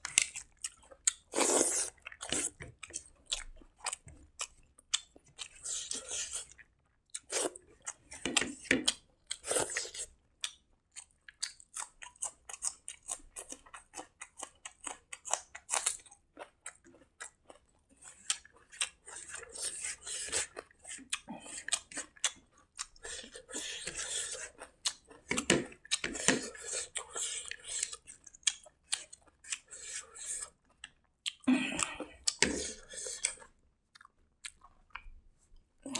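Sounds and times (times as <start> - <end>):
wet chewing and mouth smacks: 0.0 - 35.9.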